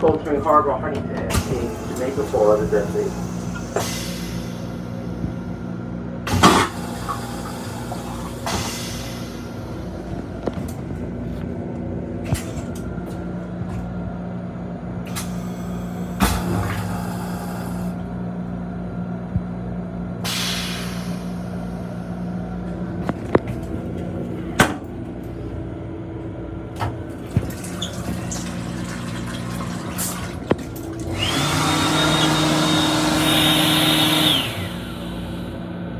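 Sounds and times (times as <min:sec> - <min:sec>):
electric train hum: 0:00.0 - 0:35.9.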